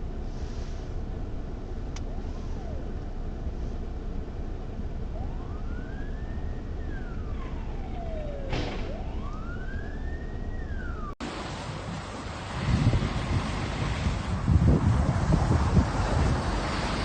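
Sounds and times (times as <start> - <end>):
road noise: 0.0 - 17.0
emergency vehicle siren wailing: 1.9 - 3.6, 4.6 - 17.0.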